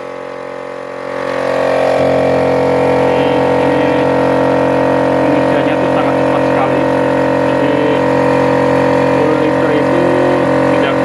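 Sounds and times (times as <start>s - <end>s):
air compressor motor humming: 0.0s - 11.0s.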